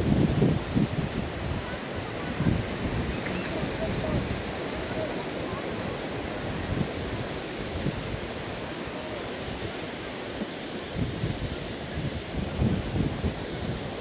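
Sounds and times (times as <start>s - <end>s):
wind buffeting microphone: 0.0s - 9.9s, 10.8s - 14.0s.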